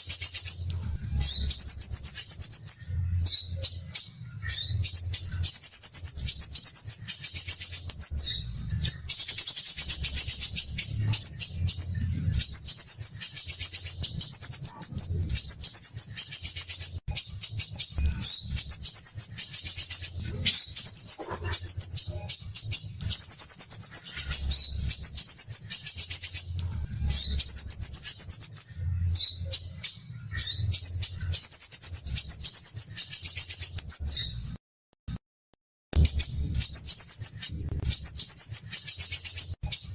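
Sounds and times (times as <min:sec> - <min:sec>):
sunbird singing high trills: 0:00.0 - 0:34.4.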